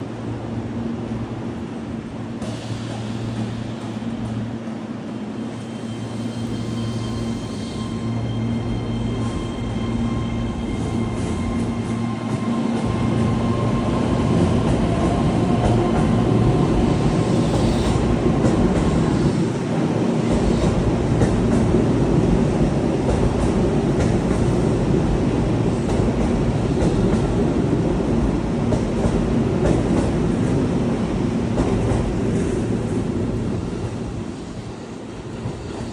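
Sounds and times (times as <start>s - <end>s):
train wheels and motors rumbling: 1.1s - 35.9s.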